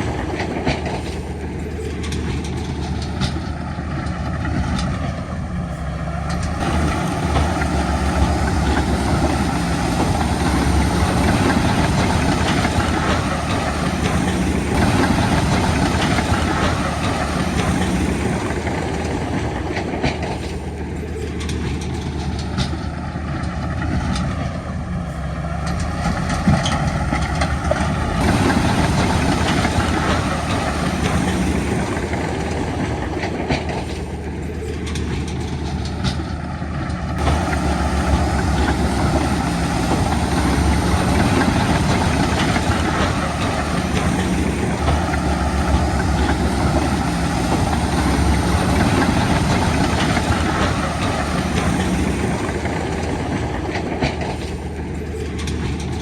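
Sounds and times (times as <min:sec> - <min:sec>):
bulldozer engine running: 0:00.0 - 0:56.0
steel tracks clanking: 0:00.0 - 0:56.0.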